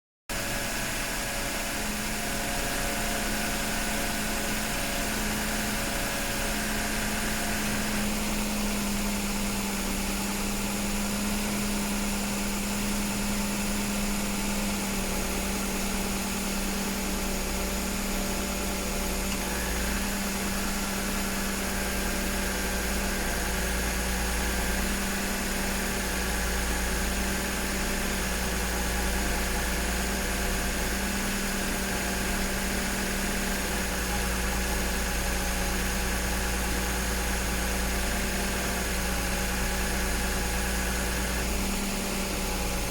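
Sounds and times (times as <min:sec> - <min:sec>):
car engine idling: 0:00.3 - 0:42.9.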